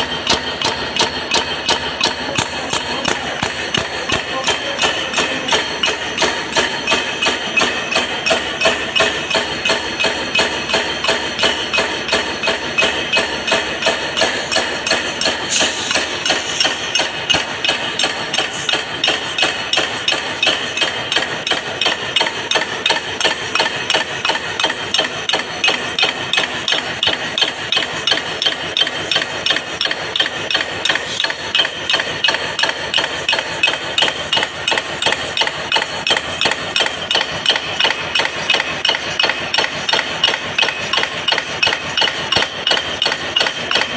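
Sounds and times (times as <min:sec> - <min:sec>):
rapid hammer-like strikes: 0:00.0 - 0:43.9.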